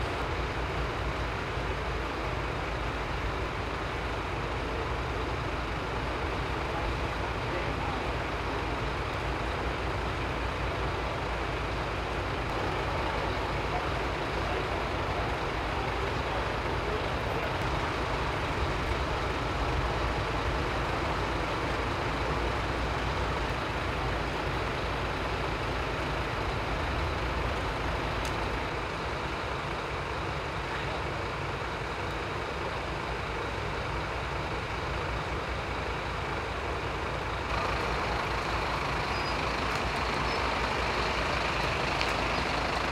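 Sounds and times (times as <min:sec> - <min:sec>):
diesel engines idling: 0:00.0 - 0:42.9.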